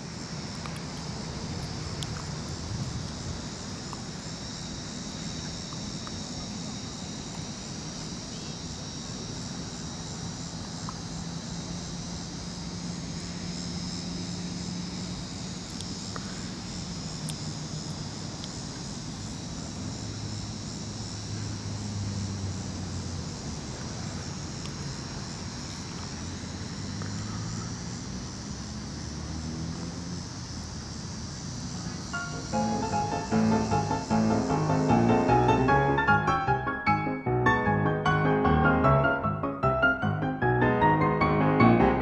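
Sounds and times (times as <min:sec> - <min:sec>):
insects chirring: 0:00.0 - 0:42.0.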